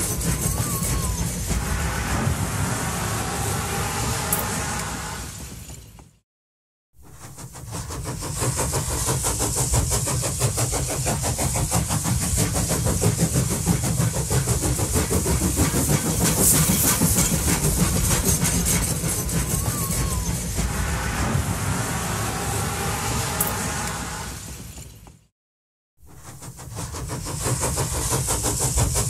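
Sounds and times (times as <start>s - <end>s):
train rumbling rhythmically: 0.0s - 6.2s, 7.0s - 25.3s, 26.0s - 29.0s.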